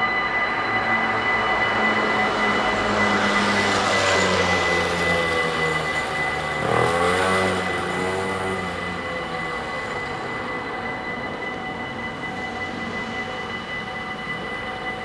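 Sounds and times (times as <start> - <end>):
crossing warning bells ringing: 0.0 - 15.0.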